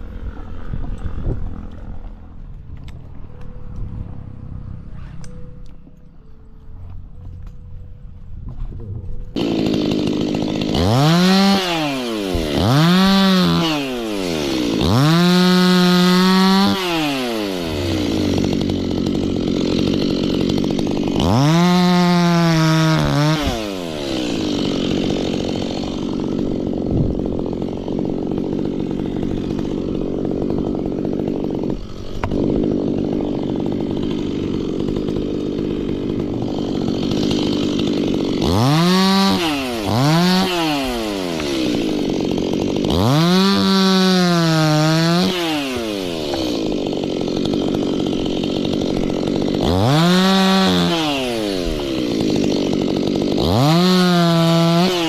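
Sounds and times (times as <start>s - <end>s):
chainsaw idling and revving: 0.0s - 5.8s, 9.3s - 55.0s.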